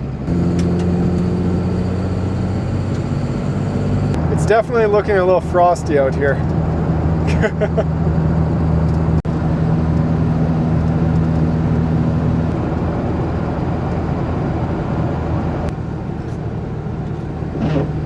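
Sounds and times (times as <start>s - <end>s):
engine low hum: 0.0s - 18.0s
road noise inside truck cab: 0.0s - 18.0s.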